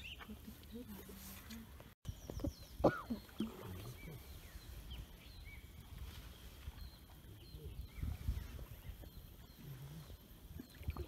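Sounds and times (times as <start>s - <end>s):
birds chirping and whistling: 2.1s - 11.0s.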